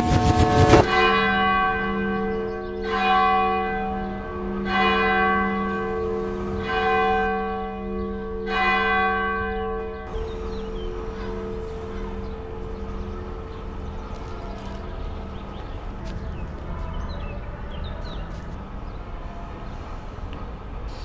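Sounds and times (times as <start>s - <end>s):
large church bell tolling: 0.0s - 20.8s.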